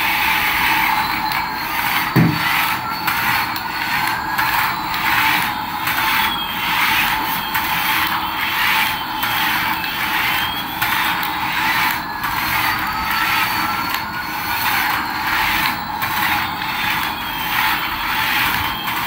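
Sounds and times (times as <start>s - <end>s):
faint rising whistle: 0.3s - 19.0s
toy drive motor whir: 1.7s - 19.0s.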